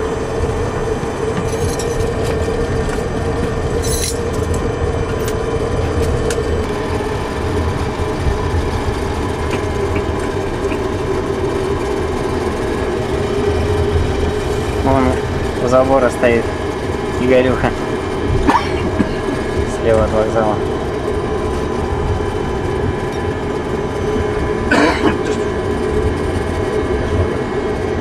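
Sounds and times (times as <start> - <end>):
jet engines droning: 0.0 - 28.0.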